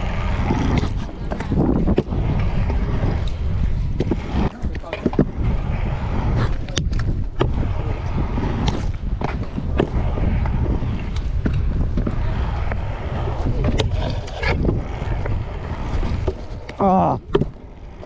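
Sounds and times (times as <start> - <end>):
scooter wheels rolling on concrete: 0.0 - 18.0.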